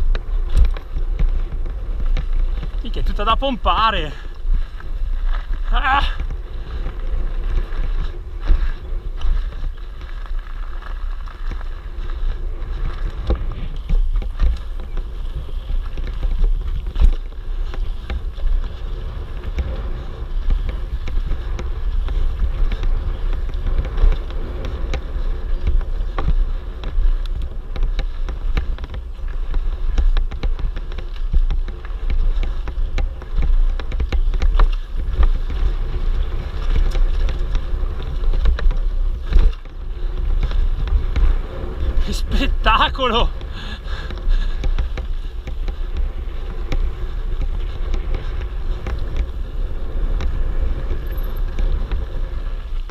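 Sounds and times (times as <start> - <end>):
bike knocking and rattling: 0.0 - 52.9
wind rumble on microphone: 0.0 - 52.9.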